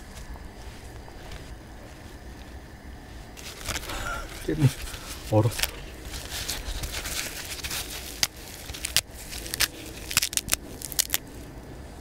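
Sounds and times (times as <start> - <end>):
frozen leaves crackling: 0.0 - 12.0.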